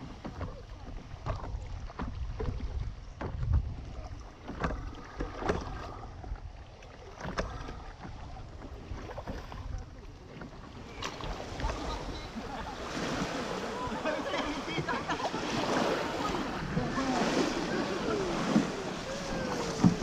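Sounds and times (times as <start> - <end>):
wind rumbling on microphone: 0.0 - 14.0, 14.6 - 20.0
water splashing around a boat: 0.0 - 20.0.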